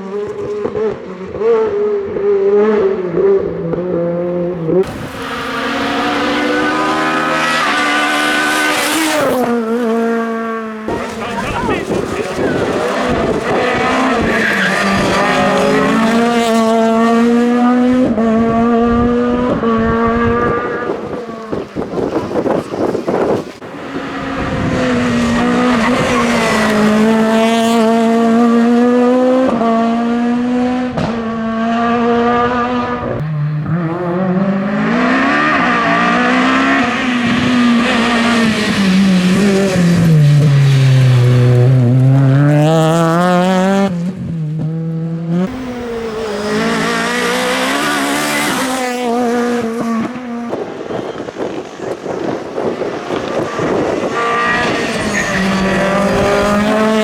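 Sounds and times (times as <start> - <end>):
rally car engine at high revs: 0.0 - 57.0.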